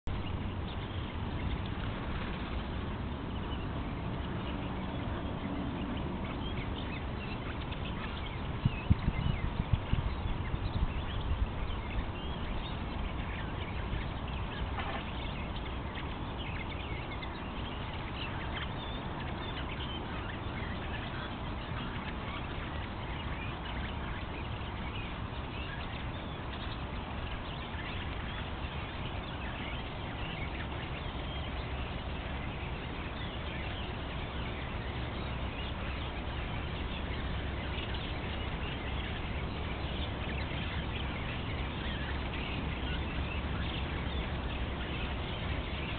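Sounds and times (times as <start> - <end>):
bird chorus: 0.0 - 45.9
low background noise: 0.1 - 45.9.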